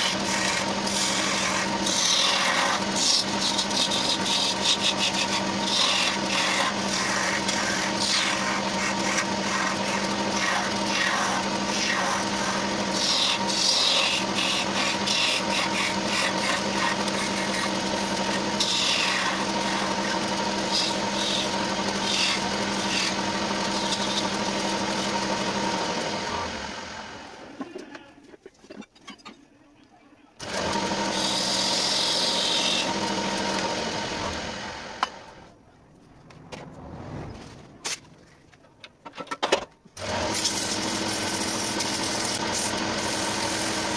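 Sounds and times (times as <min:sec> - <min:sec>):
wood lathe motor hum: 0:00.0 - 0:27.5, 0:30.4 - 0:35.5, 0:40.0 - 0:43.9
gouge scraping spinning wood: 0:00.0 - 0:27.8, 0:30.4 - 0:35.2, 0:40.0 - 0:43.9.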